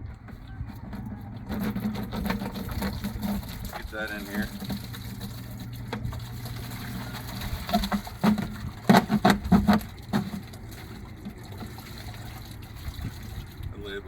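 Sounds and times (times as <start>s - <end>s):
loud glugs: 0.0s - 12.6s
liquid pouring into plastic bucket: 0.1s - 13.8s.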